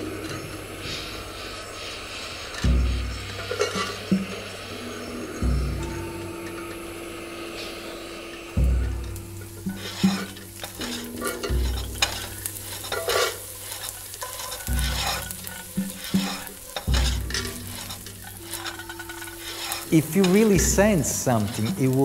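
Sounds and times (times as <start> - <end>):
wooden spatula scraping frying pan: 0.4 - 5.8, 7.5 - 22.0.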